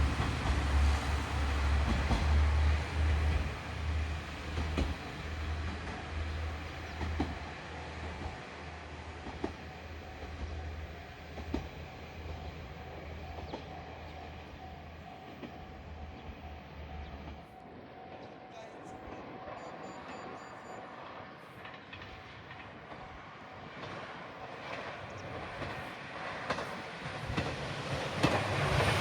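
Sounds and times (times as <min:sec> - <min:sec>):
wheels clicking over rail joints: 0:00.0 - 0:19.4, 0:21.3 - 0:29.0
train drone on rails: 0:00.0 - 0:29.0.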